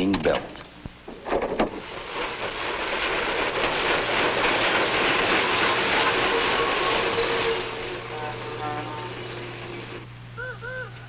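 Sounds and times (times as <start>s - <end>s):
freight car rattling over rails: 0.0s - 10.1s.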